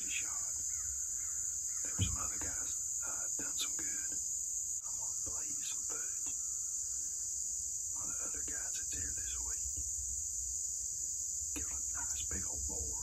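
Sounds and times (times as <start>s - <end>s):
crickets and insects droning: 0.0s - 13.0s.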